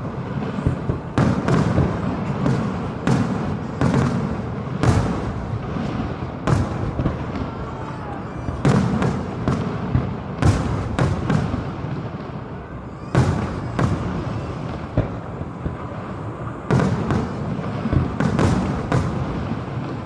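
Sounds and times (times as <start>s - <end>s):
fireworks bangs: 0.0s - 20.0s
fireworks crackling and rumble: 0.0s - 20.0s.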